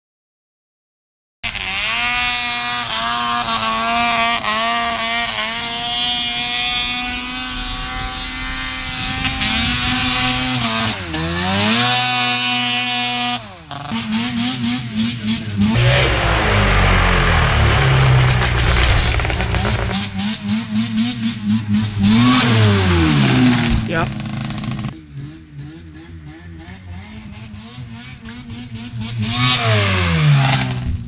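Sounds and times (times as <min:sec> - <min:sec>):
snowmobile engine running: 0:01.5 - 0:31.0.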